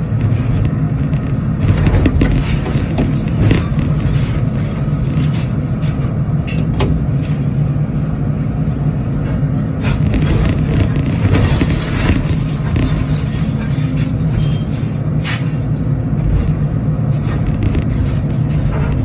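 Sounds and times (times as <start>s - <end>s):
excavator diesel engine running: 0.0s - 19.0s
knocks and clatters of debris: 0.2s - 7.0s, 9.8s - 19.0s.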